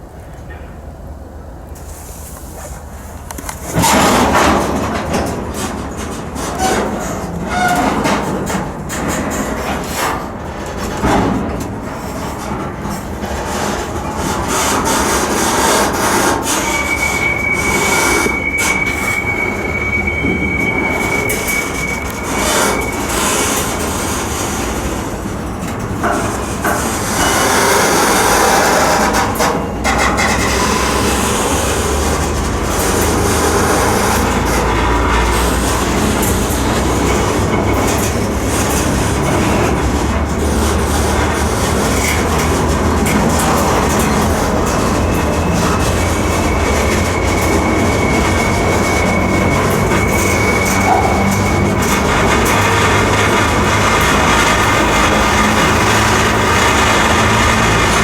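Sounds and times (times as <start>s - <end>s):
freight train rumble and clatter: 0.0s - 58.0s
high metallic squeal: 3.7s - 10.0s, 13.3s - 58.0s.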